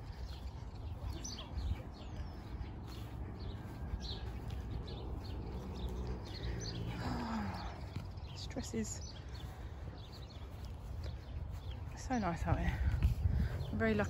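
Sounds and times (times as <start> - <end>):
small birds chirping: 0.0 - 14.0
wind rumble on microphone: 0.0 - 14.0.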